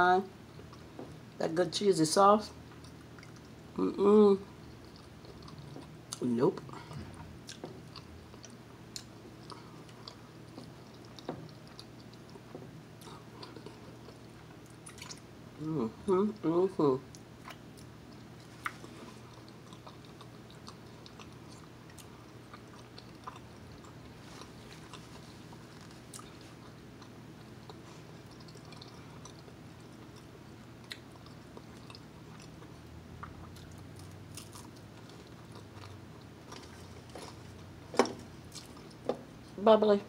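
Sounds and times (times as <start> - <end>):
low steady hum: 0.0 - 40.0
person chewing: 2.6 - 3.8, 4.4 - 15.3, 17.1 - 39.6.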